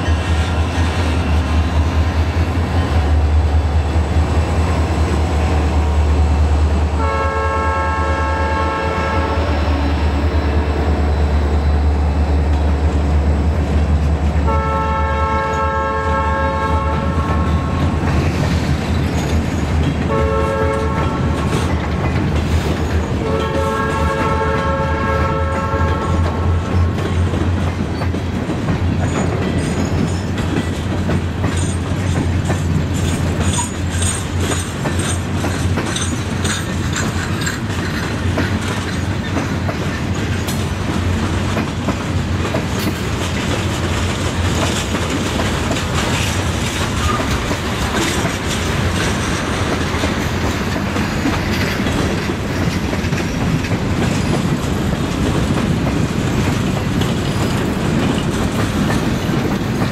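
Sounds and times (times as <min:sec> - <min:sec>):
train rumbling: 0:00.0 - 0:59.9
train wheels clickety-clack: 0:00.0 - 0:59.9.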